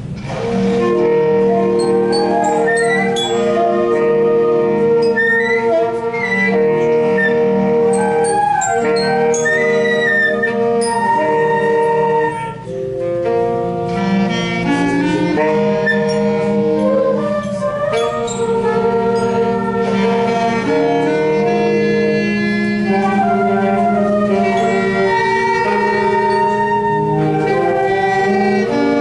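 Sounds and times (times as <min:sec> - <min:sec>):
wind band playing: 0:00.0 - 0:29.0.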